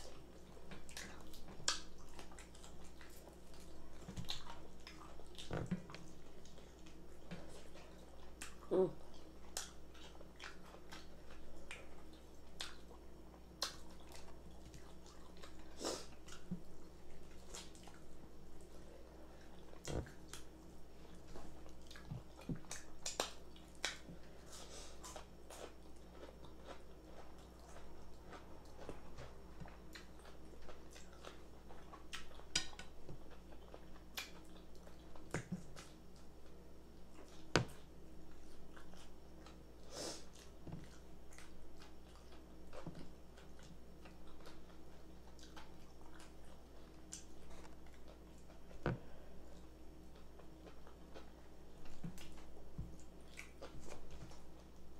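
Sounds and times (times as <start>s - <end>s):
chewing fried chicken: 0.0s - 54.9s.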